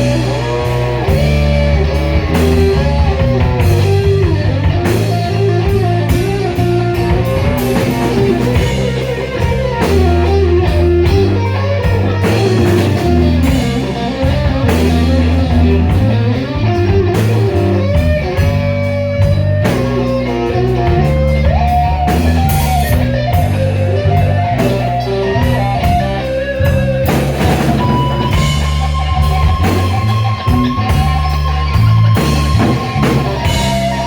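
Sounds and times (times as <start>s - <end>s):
bass guitar: 0.0s - 34.0s
drum kit: 0.0s - 34.0s
electric guitar solo: 0.0s - 34.0s.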